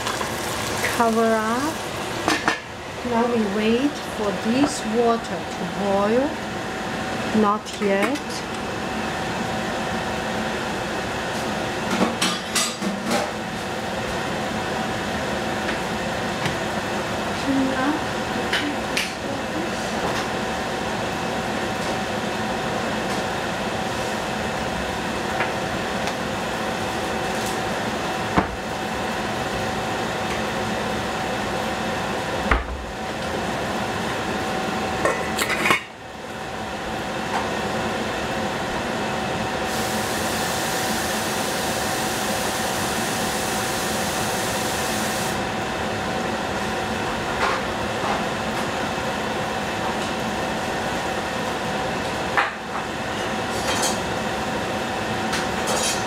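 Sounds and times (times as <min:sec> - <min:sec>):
kitchen hum and hiss: 0:00.0 - 0:56.0.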